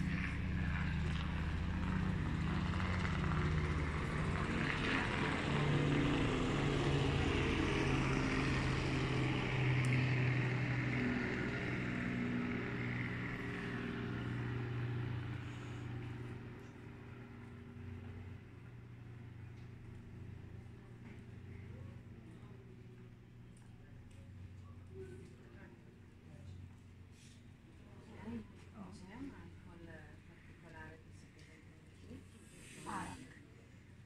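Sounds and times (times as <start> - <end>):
engine droning: 0.0 - 34.0.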